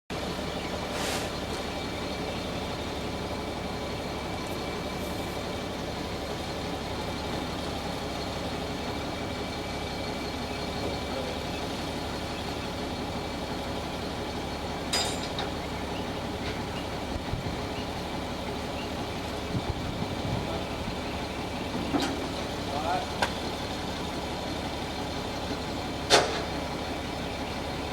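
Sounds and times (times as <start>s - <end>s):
large engine idling: 0.1s - 27.9s.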